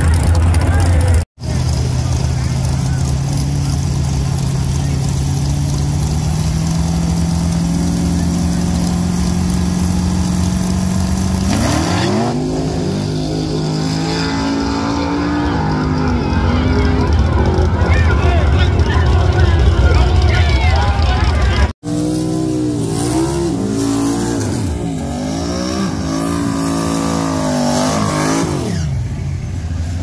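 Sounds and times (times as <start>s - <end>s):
drag car engine revving: 0.0s - 30.0s.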